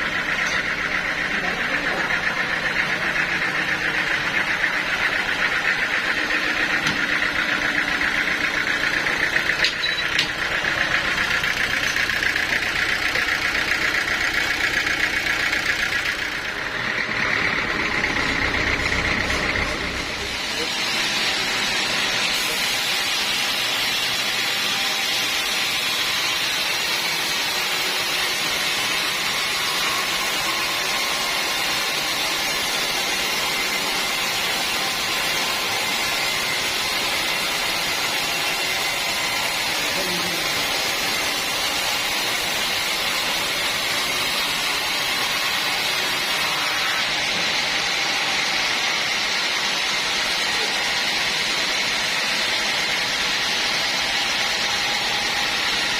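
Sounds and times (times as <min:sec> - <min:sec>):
sawmill saw running: 0:00.0 - 0:55.9.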